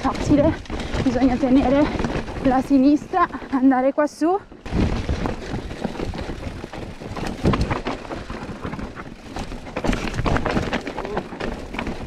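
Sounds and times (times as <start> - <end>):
bike tyres rattling over rocks: 0.0 - 12.0.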